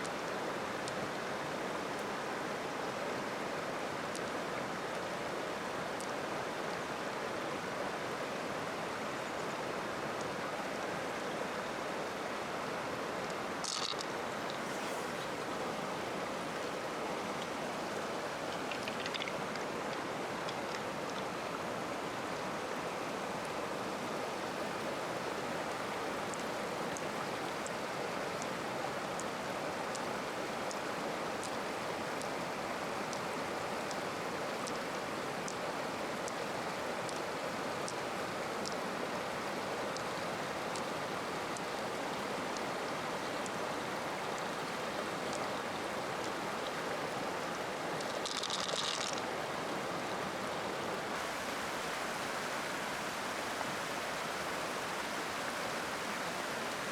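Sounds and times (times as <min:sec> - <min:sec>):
stream water flowing: 0:00.0 - 0:56.9.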